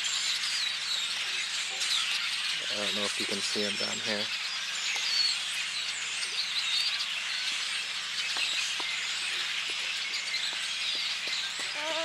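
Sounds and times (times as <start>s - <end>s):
flock of birds chattering: 0.0s - 12.0s.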